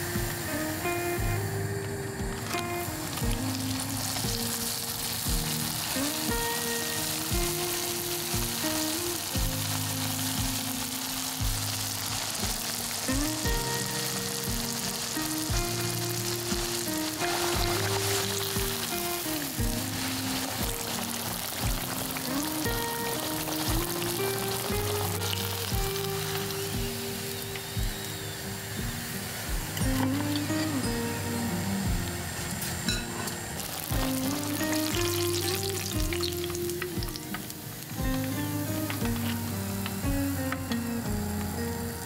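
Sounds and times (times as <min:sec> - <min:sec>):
background music with beat: 0:00.0 - 0:42.0
patty sizzling in hot oil: 0:00.0 - 0:42.0.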